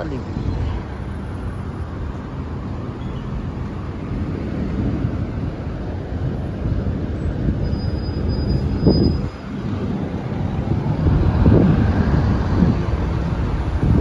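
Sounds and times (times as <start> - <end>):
road traffic rumble: 0.0 - 14.0
wind buffeting microphone: 0.0 - 14.0.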